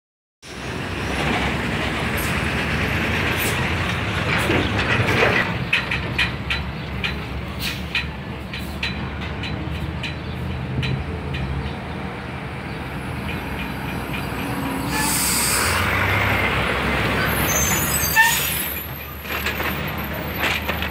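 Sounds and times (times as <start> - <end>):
diesel truck engines: 0.4 - 20.9.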